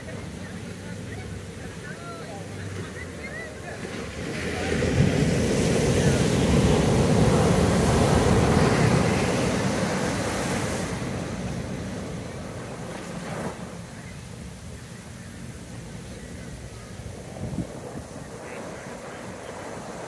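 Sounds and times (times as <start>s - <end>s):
ocean wave breaking: 0.0s - 20.0s.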